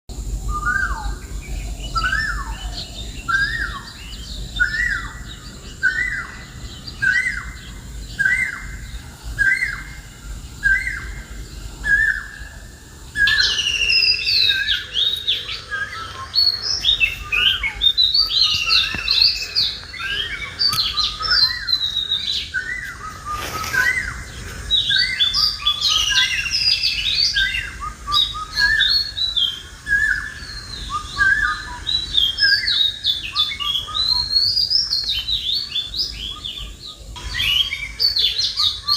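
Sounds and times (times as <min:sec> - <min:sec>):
birds chirping and trilling: 0:00.1 - 0:38.9.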